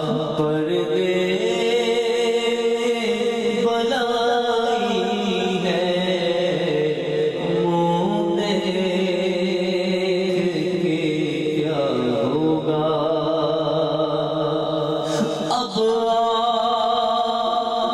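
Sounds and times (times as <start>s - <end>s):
man singing into microphone: 0.0s - 17.9s.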